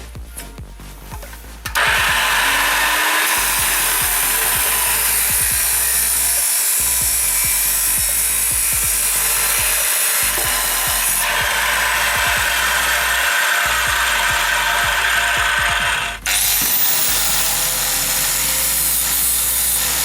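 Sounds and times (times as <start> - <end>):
power tool running on metal: 1.7 - 20.0.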